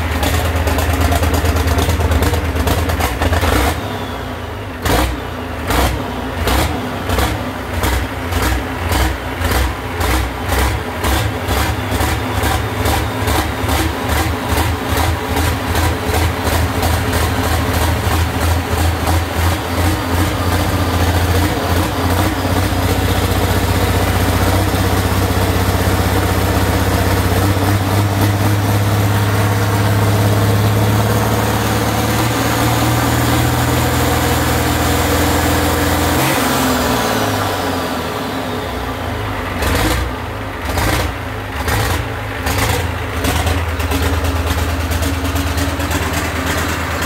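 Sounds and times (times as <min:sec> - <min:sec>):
engine idling through exhaust: 0:00.0 - 0:35.4, 0:37.3 - 0:47.0.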